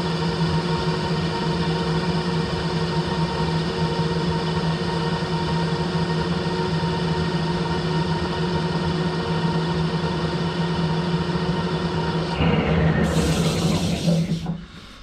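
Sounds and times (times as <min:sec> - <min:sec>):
lathe humming with whine: 0:00.0 - 0:15.0.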